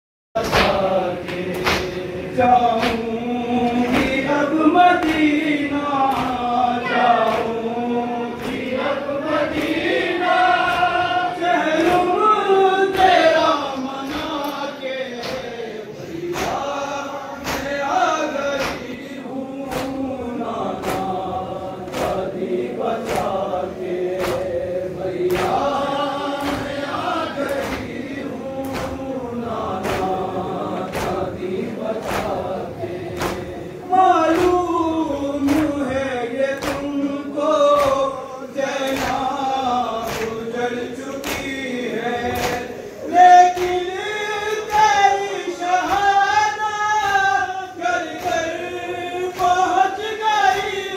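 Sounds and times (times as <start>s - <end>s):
men chanting a lament: 0.4s - 50.9s
rhythmic chest slapping: 0.4s - 50.9s.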